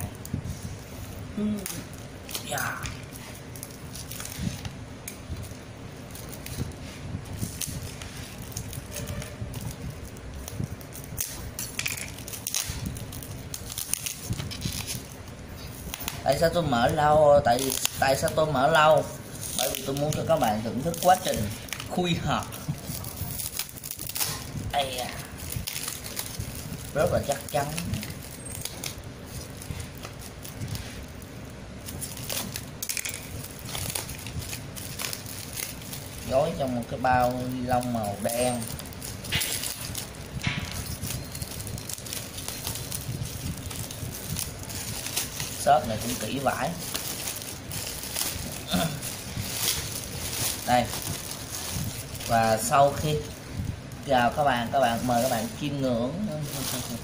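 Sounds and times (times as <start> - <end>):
sharp crackles: 0.0 - 57.0
packaging being torn open: 7.4 - 53.3.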